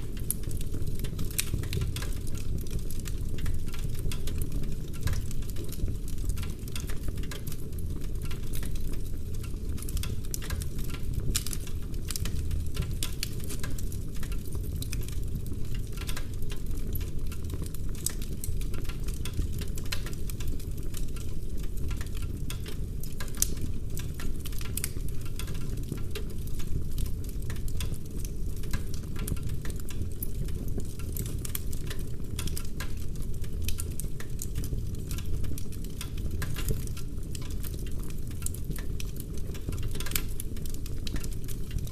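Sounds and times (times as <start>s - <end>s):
logs crackling and popping: 0.0s - 41.9s
low rumble of flames: 0.0s - 41.9s.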